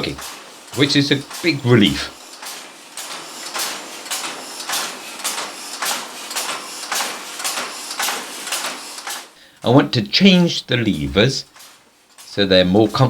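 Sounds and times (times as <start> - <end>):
air engine hissing puffs: 0.0 - 13.0.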